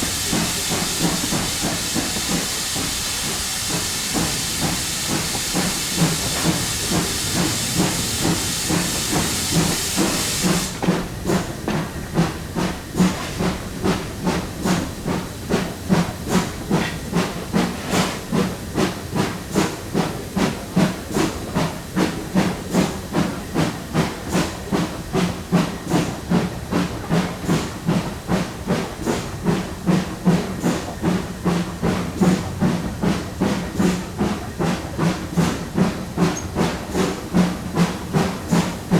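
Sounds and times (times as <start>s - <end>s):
steam hissing: 0.0s - 38.9s
steam locomotive chuffing: 0.0s - 38.9s.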